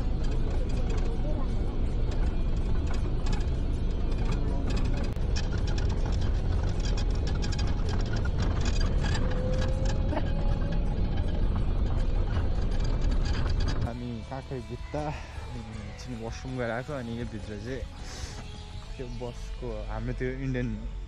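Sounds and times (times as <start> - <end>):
bus road and engine rumble: 0.0 - 20.0.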